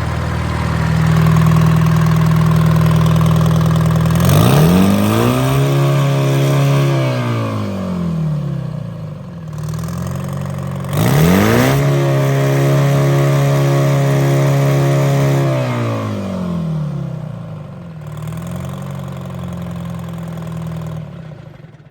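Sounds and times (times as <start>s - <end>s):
diesel engine revving: 0.0s - 21.6s.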